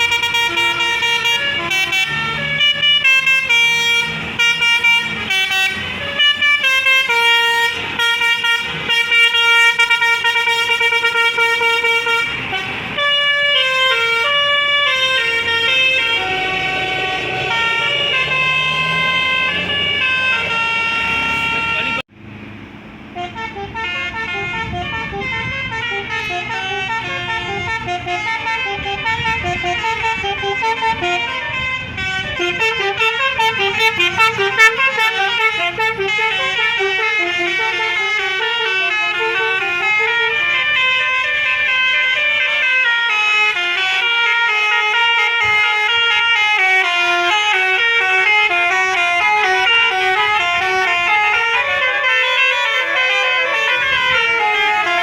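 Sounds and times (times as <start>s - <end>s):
multi-tone musical bus horn: 0.0s - 22.1s, 23.1s - 55.0s
low engine rumble: 0.0s - 55.0s.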